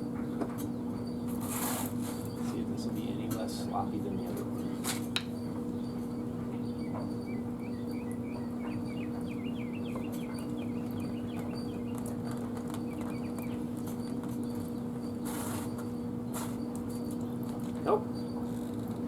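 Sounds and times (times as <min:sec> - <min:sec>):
steady low hum: 0:00.0 - 0:19.0
birds chirping and twittering: 0:02.2 - 0:19.0.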